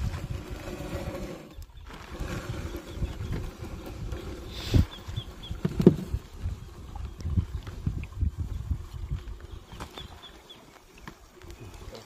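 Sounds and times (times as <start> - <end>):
wind buffeting microphone: 0.0 - 10.5
net and rope hauled over boat: 0.0 - 12.0.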